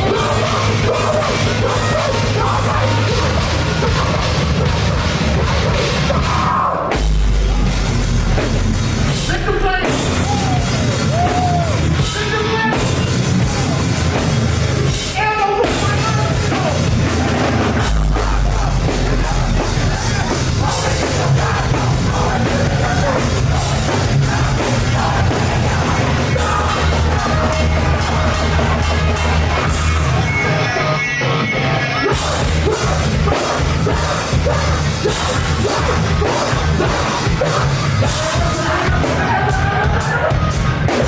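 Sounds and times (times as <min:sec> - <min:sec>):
shouted and sung vocals: 0:00.0 - 0:07.0, 0:09.2 - 0:13.9, 0:14.9 - 0:41.0
live rock band: 0:00.0 - 0:41.0.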